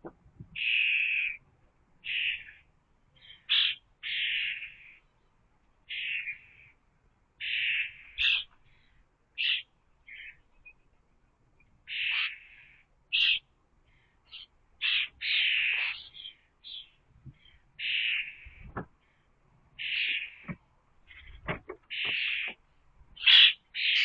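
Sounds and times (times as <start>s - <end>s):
bird harsh raspy calls: 0.6s - 1.4s, 2.0s - 5.1s, 5.9s - 6.8s, 7.4s - 10.6s, 11.9s - 24.0s.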